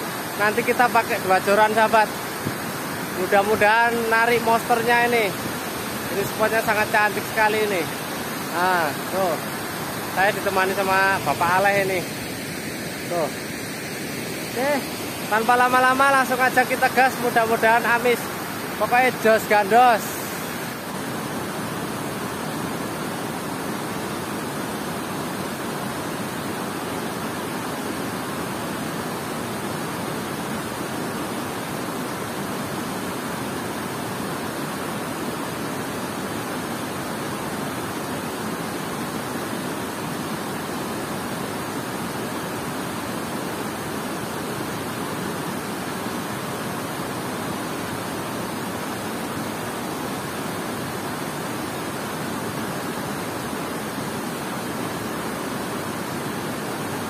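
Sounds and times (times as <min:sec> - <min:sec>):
water rushing over dam spillway: 0:00.0 - 0:57.0.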